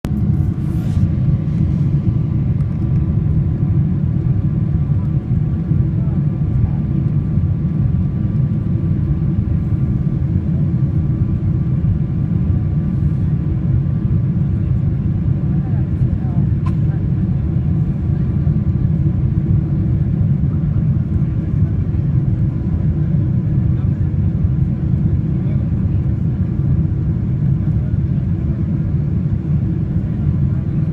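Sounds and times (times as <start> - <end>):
jet engines rumbling: 0.1 - 30.9.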